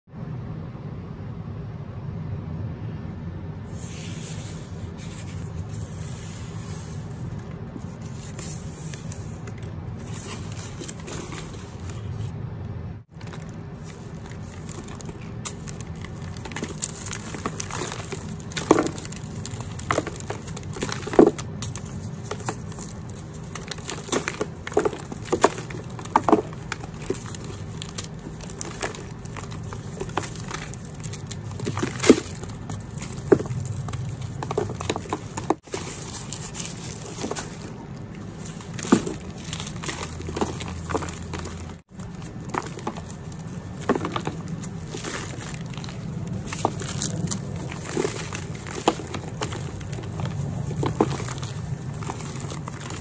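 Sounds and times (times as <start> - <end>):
chalk crunching and cracking: 3.7 - 12.3, 13.0 - 53.0.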